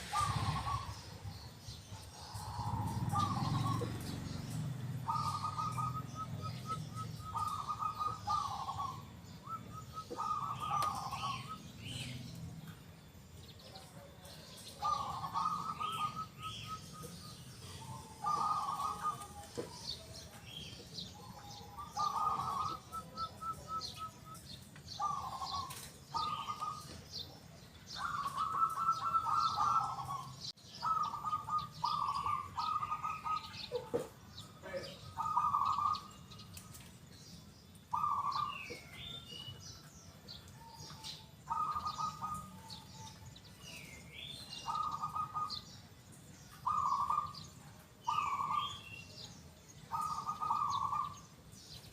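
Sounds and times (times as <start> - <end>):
dove cooing: 0.0 - 12.2, 13.8 - 36.6, 37.9 - 39.5, 40.5 - 45.9, 46.5 - 49.2, 49.8 - 51.3
small birds chirping: 0.0 - 51.9.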